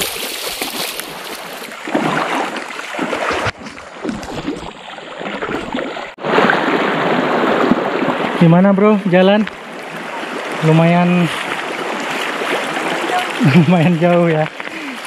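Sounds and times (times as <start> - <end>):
rushing splashing river water: 0.0 - 15.0.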